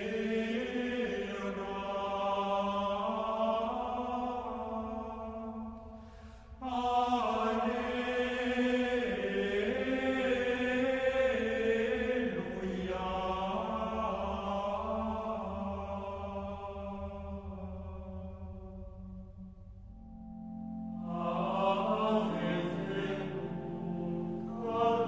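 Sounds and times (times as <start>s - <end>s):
slow vocal chant: 0.0s - 19.2s, 20.8s - 25.0s.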